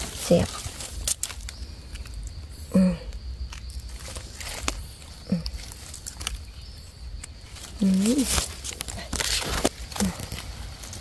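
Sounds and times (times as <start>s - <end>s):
dry leaves rustling: 0.0s - 2.3s, 3.5s - 11.0s.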